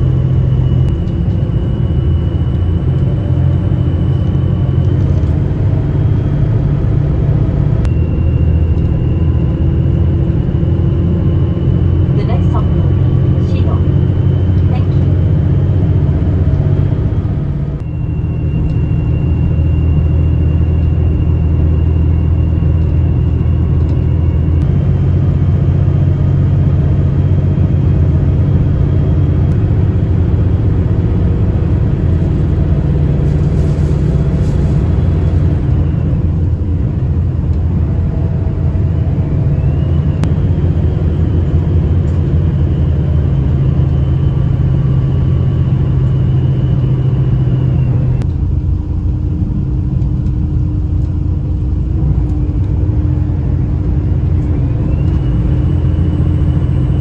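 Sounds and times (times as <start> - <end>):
railcar diesel engine droning: 0.0 - 57.0.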